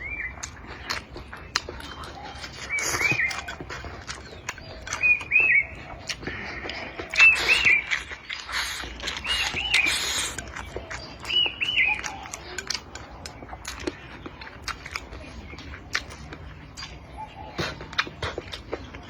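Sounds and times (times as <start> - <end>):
eating clicks and smacks: 0.0 - 19.0
small bird chirping: 0.0 - 19.0.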